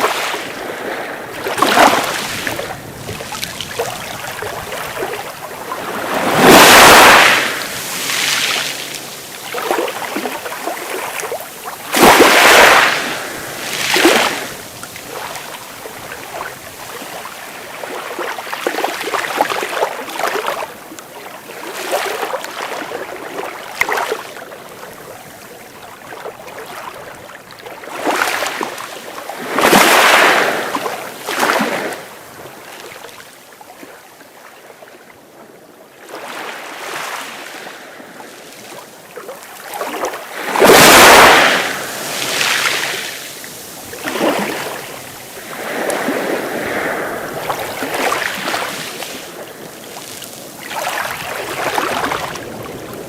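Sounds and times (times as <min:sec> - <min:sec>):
sea waves washing onto beach: 0:00.0 - 0:34.0, 0:36.1 - 0:53.0.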